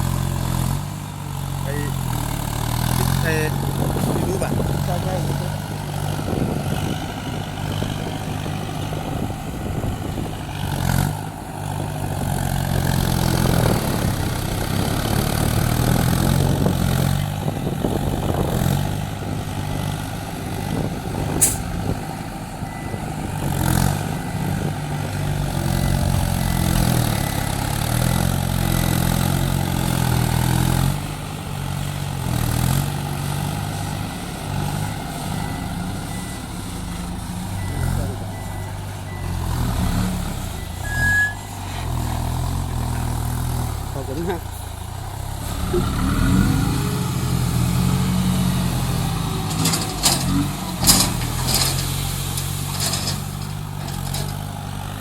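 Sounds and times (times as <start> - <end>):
diesel machinery engine running: 0.0 - 55.0.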